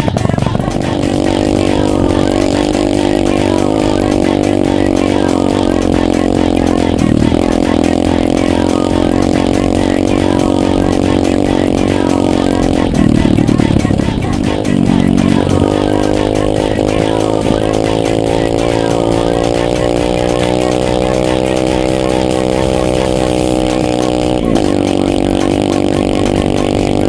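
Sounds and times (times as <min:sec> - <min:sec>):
dirt bike engine running: 0:00.0 - 0:27.0.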